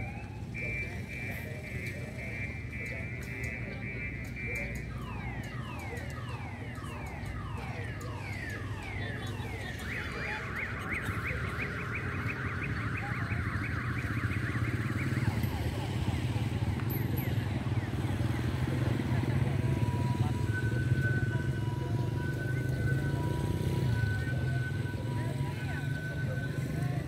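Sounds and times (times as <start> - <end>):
electronic alarm siren: 0.0 - 27.0.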